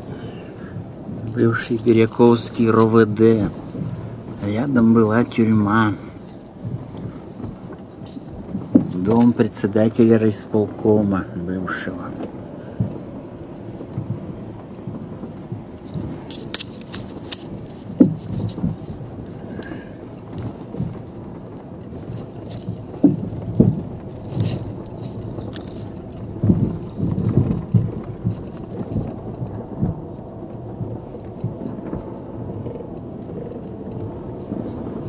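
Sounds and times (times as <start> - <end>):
car rumbling on dirt road: 0.0 - 35.0
wheels thumping in ruts: 0.0 - 35.0.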